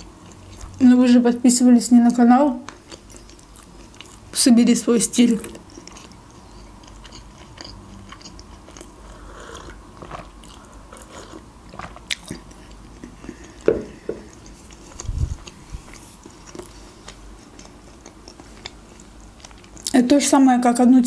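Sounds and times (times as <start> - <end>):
chewing and swallowing food: 0.0 - 0.8, 2.7 - 4.4, 5.4 - 20.0.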